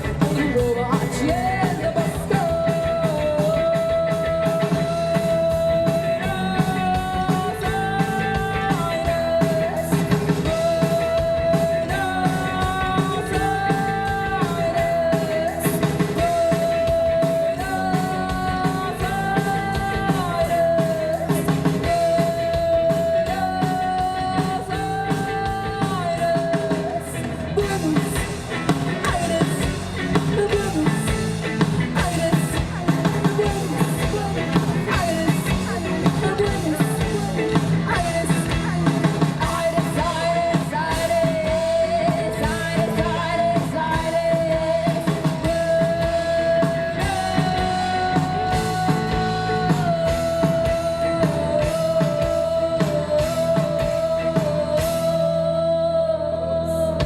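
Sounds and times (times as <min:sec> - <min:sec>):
drum kit beat: 0:00.0 - 0:55.5
live rock band playing: 0:00.0 - 0:57.0.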